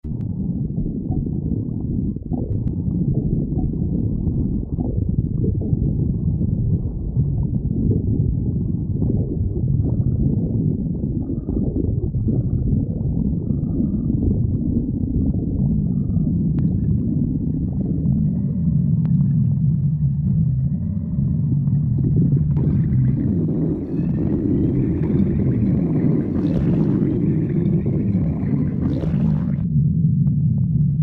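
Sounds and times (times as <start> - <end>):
stomach growling: 0.0 - 31.0.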